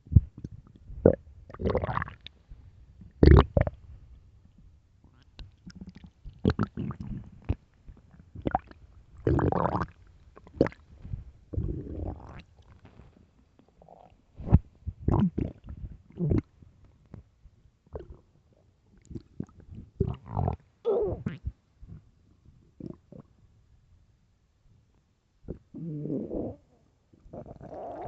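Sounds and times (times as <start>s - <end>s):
stomach growling and gurgling: 0.0s - 2.3s, 3.0s - 3.8s, 5.1s - 17.3s, 17.9s - 18.3s, 19.0s - 23.3s, 25.5s - 28.0s.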